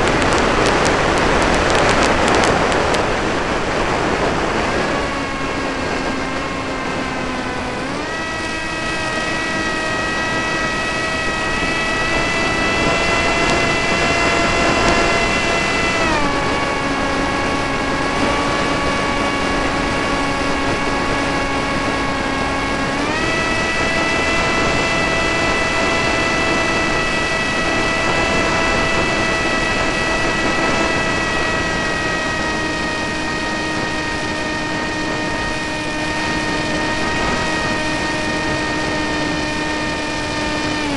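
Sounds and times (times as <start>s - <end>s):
model airplane motor and propeller: 0.0s - 40.9s.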